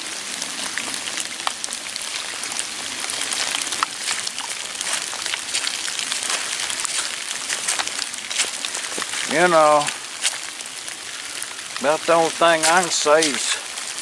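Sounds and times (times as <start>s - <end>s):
raindrops ticking: 0.0s - 14.0s
steady rain falling: 0.0s - 14.0s.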